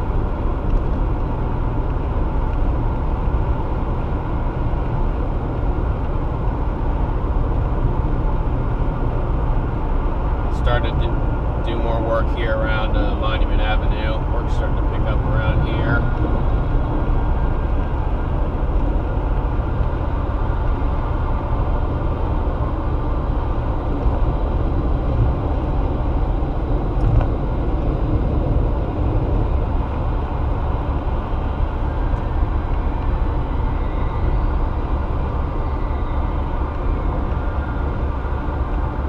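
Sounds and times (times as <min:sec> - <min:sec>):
car driving at highway speed: 0:00.0 - 0:39.0.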